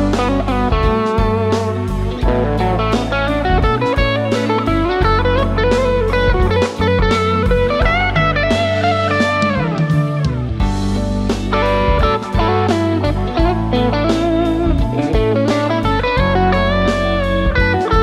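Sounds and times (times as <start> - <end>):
backing track with drums and bass: 0.0 - 18.0
electric guitar lead line: 0.0 - 18.0.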